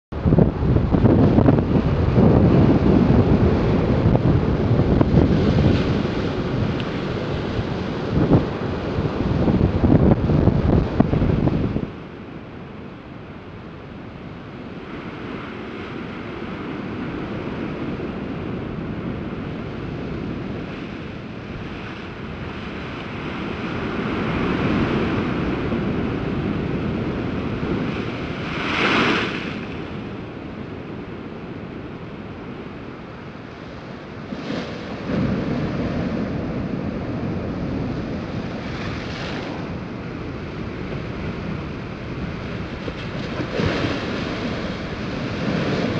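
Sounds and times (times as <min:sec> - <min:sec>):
heavy surf breaking against cliffs: 0:00.1 - 0:45.9
wind buffeting microphone: 0:00.1 - 0:45.9.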